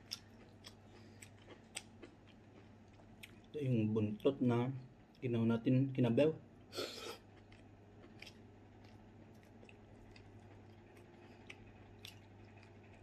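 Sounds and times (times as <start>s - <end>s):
faint chewing: 0.0s - 4.4s, 6.9s - 13.0s.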